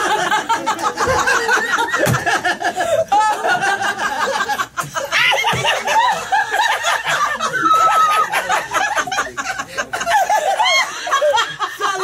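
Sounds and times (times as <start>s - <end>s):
people laughing hard: 0.0s - 12.0s.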